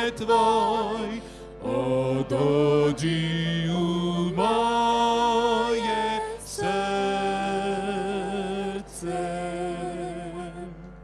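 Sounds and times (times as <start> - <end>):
slow worship song singing: 0.0 - 11.0.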